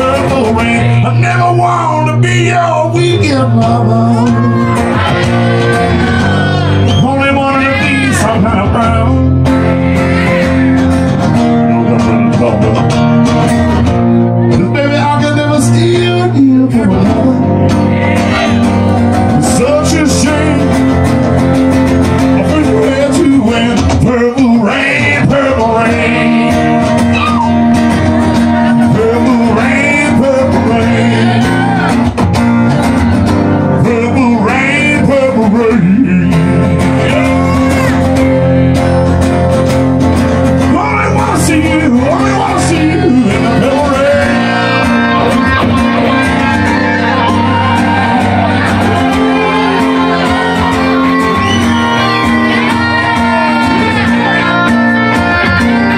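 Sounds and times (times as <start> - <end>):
man singing: 0.0 - 6.2, 6.8 - 13.4, 14.4 - 21.2, 22.1 - 32.0, 33.6 - 38.2, 40.6 - 55.9
acoustic guitars strummed: 0.0 - 55.9.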